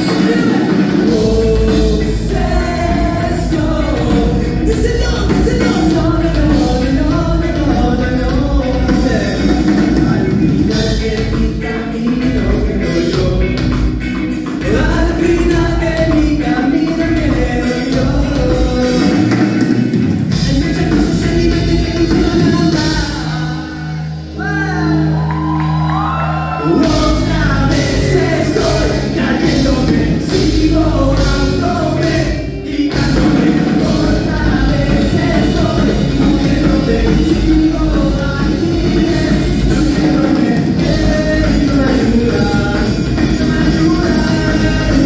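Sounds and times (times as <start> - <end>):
person shouting singing: 0.0 - 13.5, 20.4 - 45.0
rock band playing live: 0.0 - 45.0.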